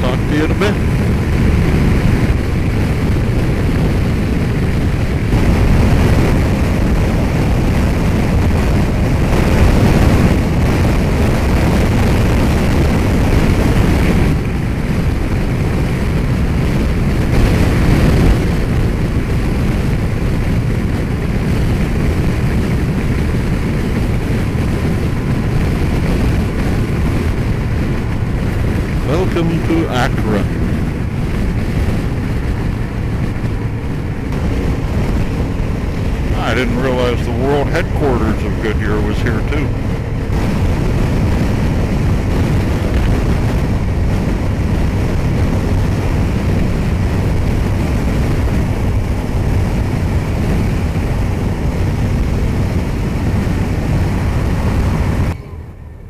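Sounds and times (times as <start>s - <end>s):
motorcycle engine drone: 0.0s - 56.0s
wind rush on helmet: 0.0s - 56.0s.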